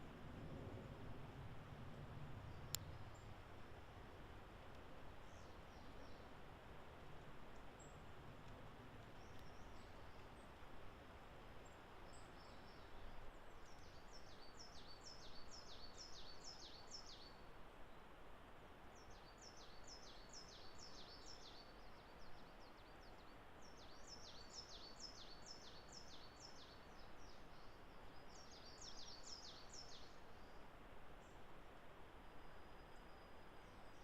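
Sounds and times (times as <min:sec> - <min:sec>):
faint forest ambience hiss: 0:00.0 - 0:34.0.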